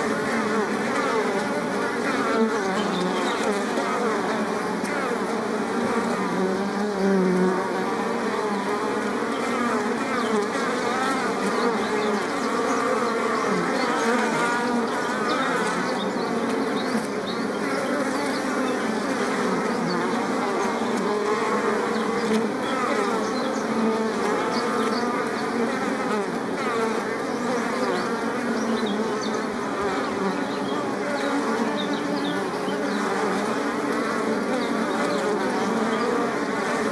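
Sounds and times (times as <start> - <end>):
bees buzzing: 0.0 - 36.9.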